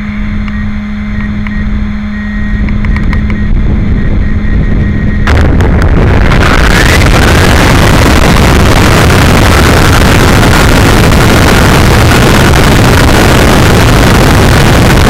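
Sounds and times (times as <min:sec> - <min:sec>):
rising motor whine: 0:00.0 - 0:15.0
rush of wind and road noise: 0:00.0 - 0:15.0
steady low hum: 0:00.0 - 0:15.0.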